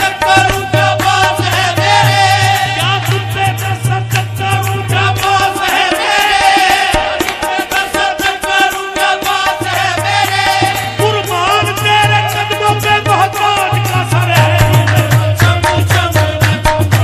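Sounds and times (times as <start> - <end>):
quick percussion beat: 0.0 - 17.0
voices singing ornamented melody: 0.0 - 17.0.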